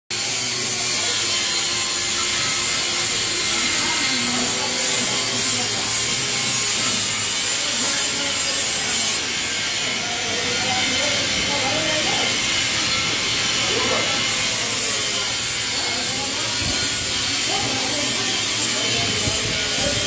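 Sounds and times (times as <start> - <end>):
loud hissing noise: 0.1 - 20.0.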